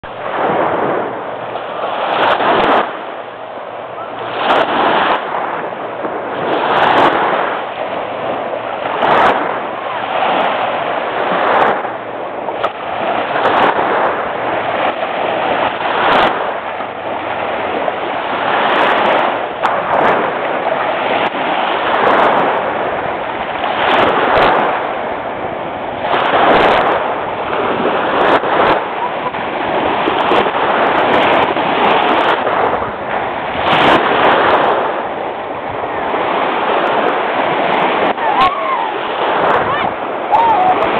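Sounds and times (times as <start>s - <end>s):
waves washing onto beach: 0.0s - 40.9s.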